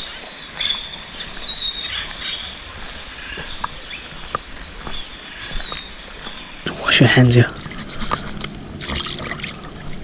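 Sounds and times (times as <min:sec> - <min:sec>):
songbirds chirping: 0:00.0 - 0:10.0
steady outdoor hiss: 0:00.0 - 0:10.0.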